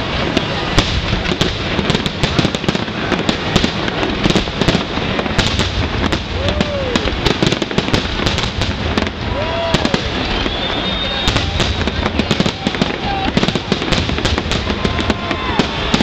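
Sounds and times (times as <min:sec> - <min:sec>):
fireworks barrage: 0:00.0 - 0:16.0.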